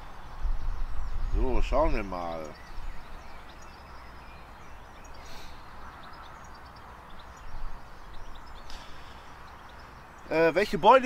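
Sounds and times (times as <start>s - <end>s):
faint bird chirps: 0.0s - 10.8s
steady low hiss: 0.0s - 11.0s.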